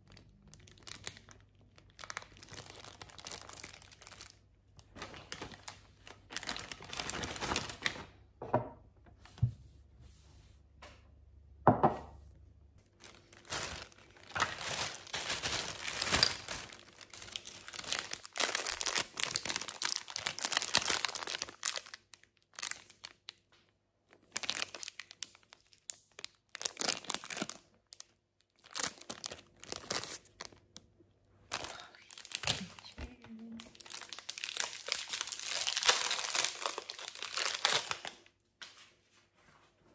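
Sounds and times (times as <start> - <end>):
packaging crinkling and rustling: 0.0 - 8.2, 12.8 - 23.5, 24.1 - 30.8, 31.5 - 38.4.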